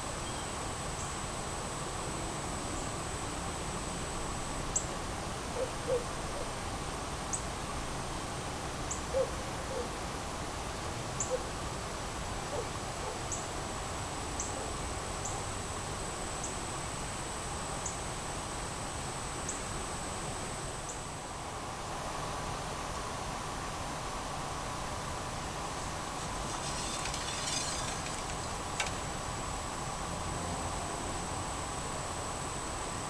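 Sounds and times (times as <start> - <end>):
steady hiss: 0.0 - 9.2, 9.9 - 30.4.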